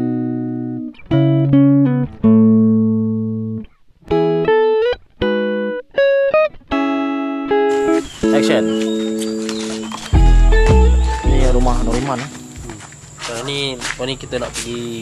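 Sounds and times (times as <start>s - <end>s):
plucked guitar melody: 0.0s - 12.6s.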